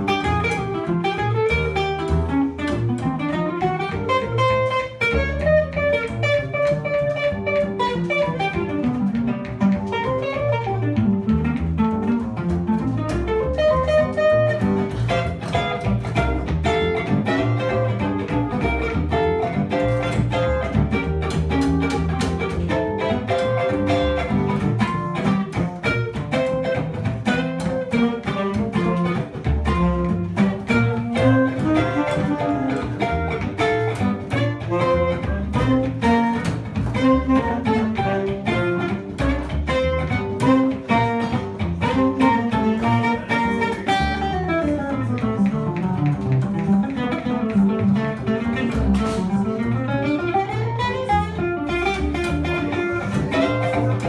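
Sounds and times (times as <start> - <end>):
jazz guitar single notes: 0.0 - 54.0
plucked upright bass: 0.0 - 54.0.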